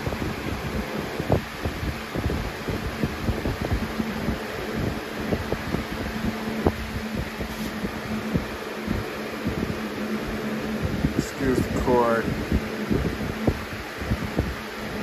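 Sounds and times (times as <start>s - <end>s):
box fan running: 0.0s - 15.0s
wind buffeting microphone: 0.0s - 15.0s.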